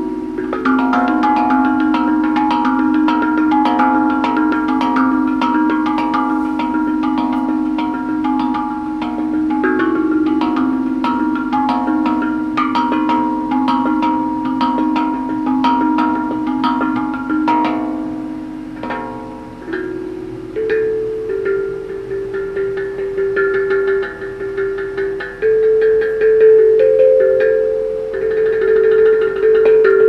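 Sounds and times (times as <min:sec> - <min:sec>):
tuned percussion runs: 0:00.0 - 0:30.0.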